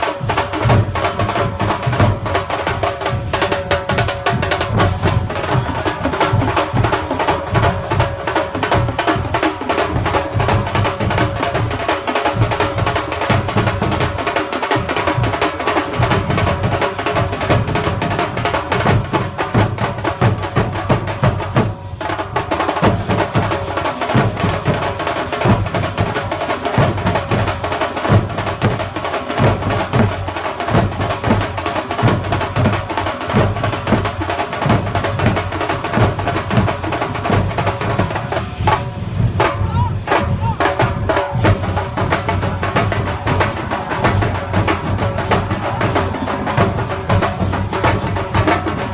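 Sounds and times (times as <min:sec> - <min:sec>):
drums beating driving rhythm: 0:00.0 - 0:48.9.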